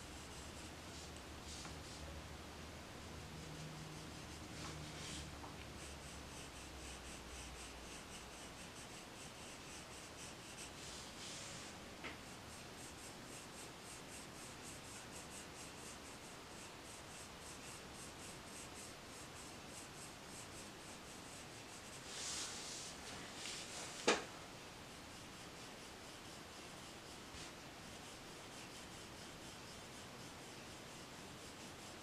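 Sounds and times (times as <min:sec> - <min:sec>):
pencil scratching on paper: 0:00.0 - 0:02.2, 0:03.0 - 0:32.0.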